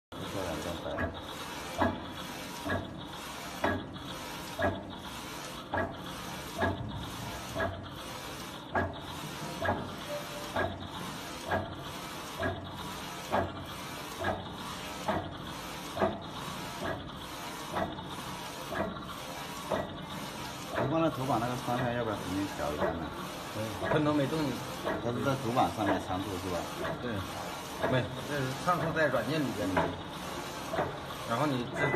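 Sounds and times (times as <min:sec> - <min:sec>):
printer carriage whirring: 0:00.1 - 0:31.9.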